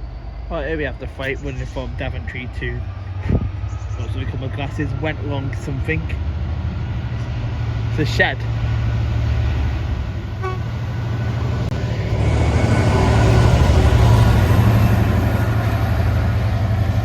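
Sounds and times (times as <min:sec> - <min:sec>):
diesel locomotive engine drone: 0:00.0 - 0:17.0
freight wagons passing: 0:00.0 - 0:17.0.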